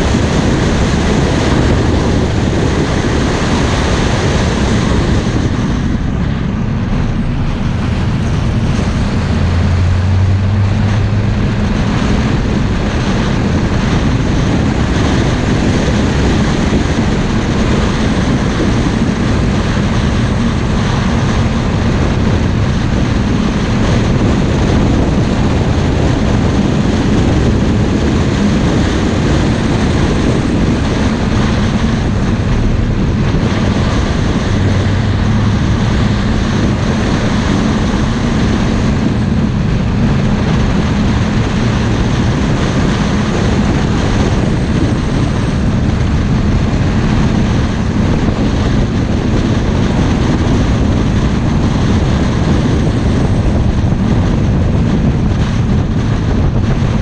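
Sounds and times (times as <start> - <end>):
low engine hum: 0.0 - 57.0
wind and road noise: 0.0 - 57.0.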